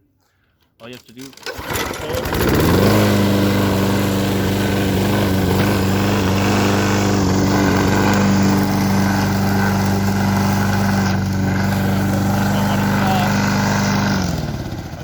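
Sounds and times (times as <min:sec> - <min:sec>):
lawnmower engine running: 0:01.2 - 0:15.0.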